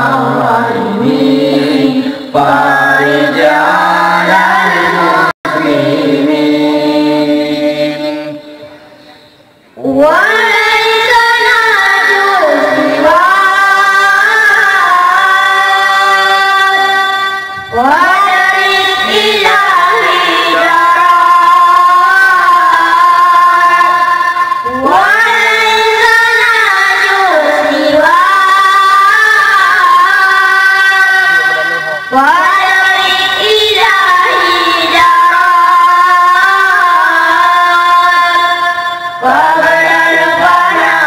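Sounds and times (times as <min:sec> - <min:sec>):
boy singing into a microphone: 0:00.0 - 0:41.0.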